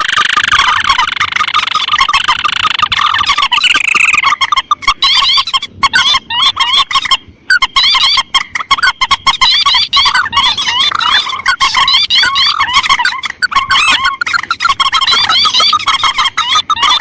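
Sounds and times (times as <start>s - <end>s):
rail birds calling: 0.0s - 17.0s.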